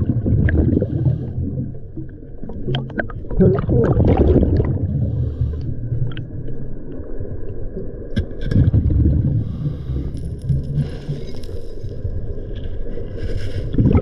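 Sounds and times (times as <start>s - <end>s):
muffled underwater bubbles rumbling: 0.0s - 14.0s.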